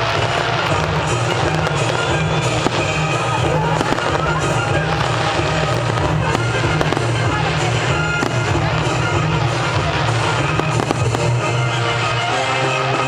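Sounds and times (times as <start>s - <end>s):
fireworks bursting and crackling: 0.0s - 13.0s
loud music: 0.0s - 13.0s.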